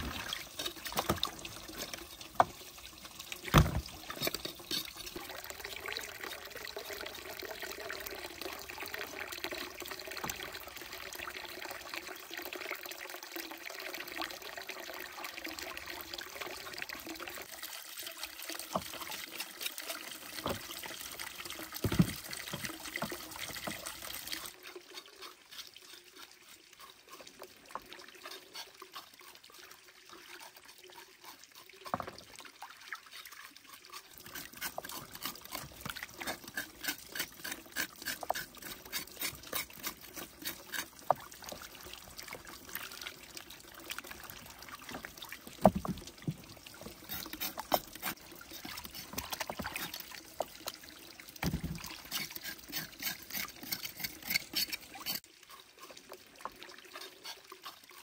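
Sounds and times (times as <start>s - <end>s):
water trickling and pouring: 0.0s - 58.0s.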